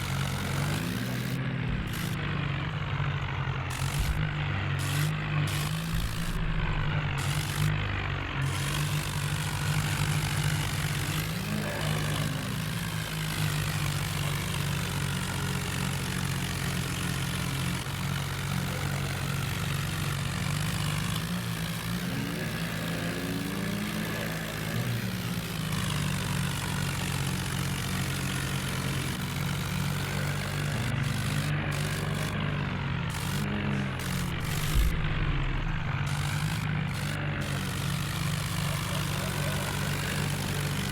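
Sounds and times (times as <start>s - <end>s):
diesel tractor engines running: 0.0s - 40.9s.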